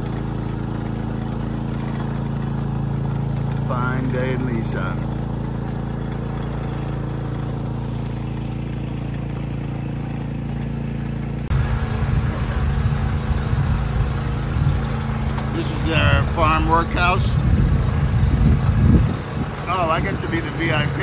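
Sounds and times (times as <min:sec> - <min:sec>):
rough low engine rumble: 0:00.0 - 0:21.0
small engine running: 0:00.0 - 0:21.0.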